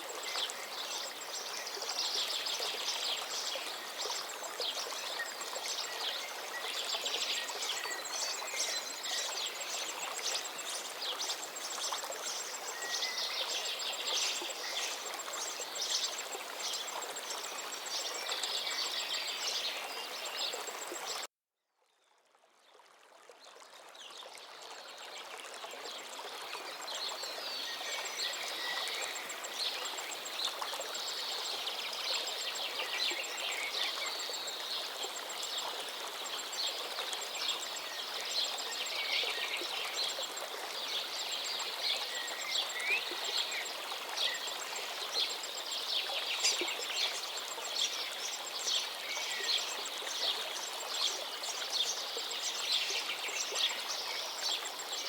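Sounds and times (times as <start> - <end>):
songbirds twittering: 0.0 - 21.3, 26.5 - 55.0
stream flowing: 0.0 - 21.3, 22.2 - 55.0.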